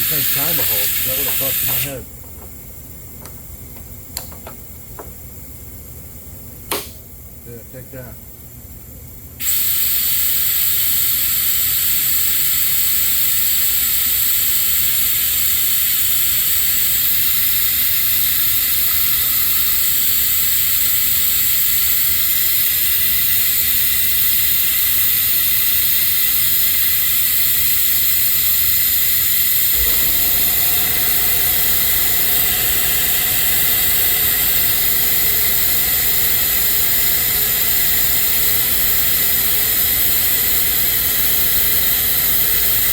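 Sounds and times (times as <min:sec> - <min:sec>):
air-powered vacuum tool hissing: 0:00.0 - 0:02.0, 0:09.4 - 0:42.9
air compressor humming: 0:00.0 - 0:07.4, 0:09.4 - 0:42.9.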